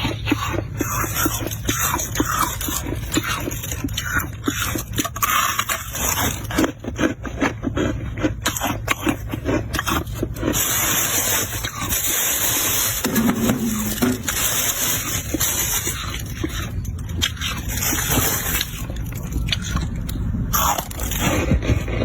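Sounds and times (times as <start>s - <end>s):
ice crunching and cracking: 0.4s - 22.0s.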